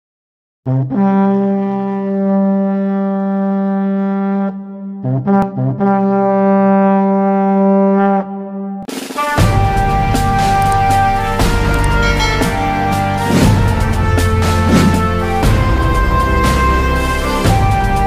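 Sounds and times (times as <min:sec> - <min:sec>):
brass horn playing: 0:00.7 - 0:18.0.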